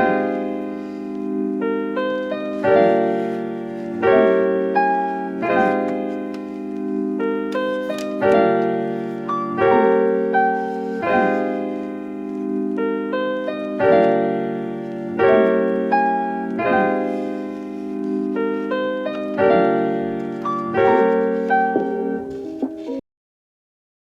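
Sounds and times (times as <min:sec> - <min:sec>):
electric piano chords: 0:00.0 - 0:23.0.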